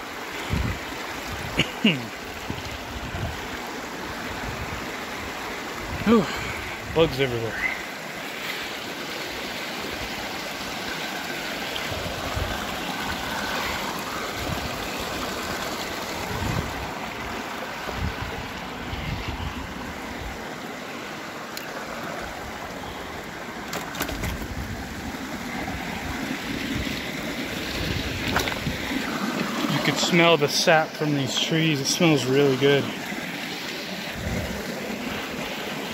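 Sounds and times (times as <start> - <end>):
stream trickling over rocks: 0.0 - 35.9.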